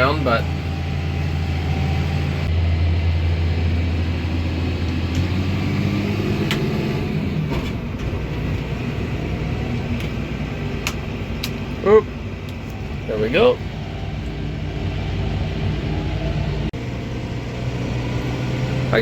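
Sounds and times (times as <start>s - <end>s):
tractor engine humming: 0.0s - 19.0s.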